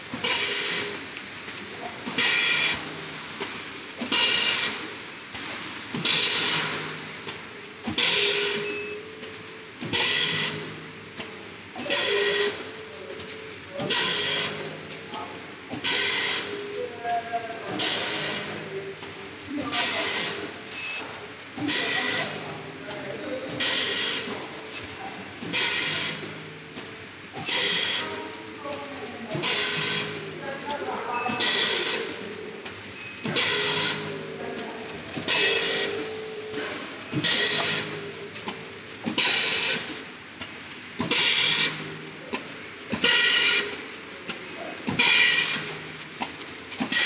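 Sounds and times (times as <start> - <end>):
machine mechanical clatter: 0.0 - 16.8, 17.5 - 47.0.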